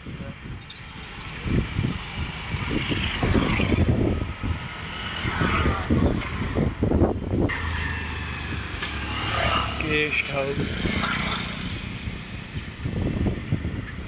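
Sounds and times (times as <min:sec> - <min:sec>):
low vehicle hum: 0:00.0 - 0:14.0
wind buffeting microphone: 0:00.0 - 0:14.0.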